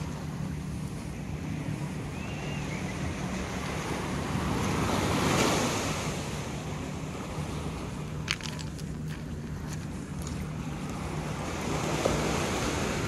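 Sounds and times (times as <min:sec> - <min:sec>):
small waves washing onto shore: 0:00.0 - 0:13.0.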